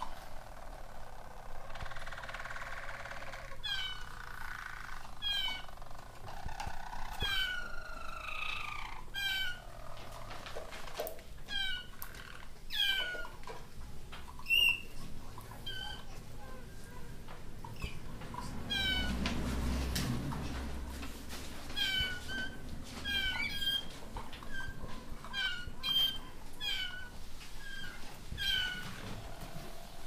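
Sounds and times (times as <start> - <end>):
canary singing: 0.0 - 10.8, 11.4 - 13.6, 14.3 - 19.2, 21.7 - 30.0.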